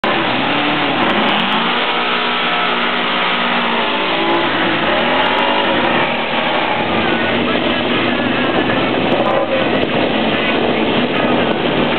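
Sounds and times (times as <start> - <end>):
car engines revving and accelerating: 0.0 - 11.9.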